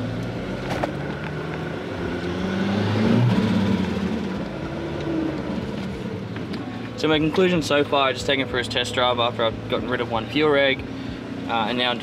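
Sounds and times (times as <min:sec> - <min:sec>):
car engine while driving: 0:00.0 - 0:12.0.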